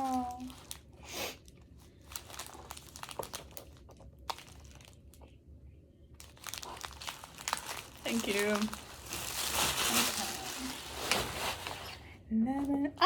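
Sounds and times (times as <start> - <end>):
gift wrapping crinkling: 0.0 - 5.4, 6.1 - 12.1.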